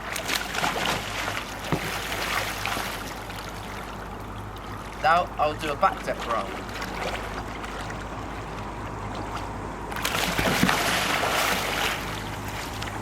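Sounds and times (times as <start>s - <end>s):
water splashing around kayak: 0.0s - 13.0s.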